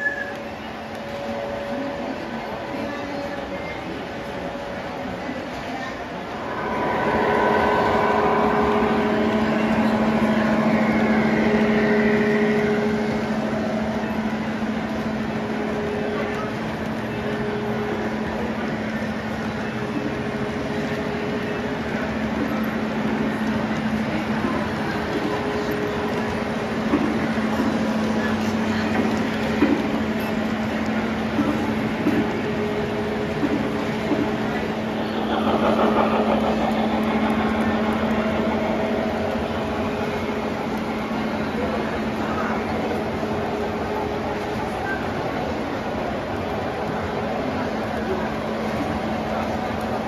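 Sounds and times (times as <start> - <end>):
model train wheels rumbling on rails: 0.0 - 50.0
electrical hum: 6.3 - 50.0.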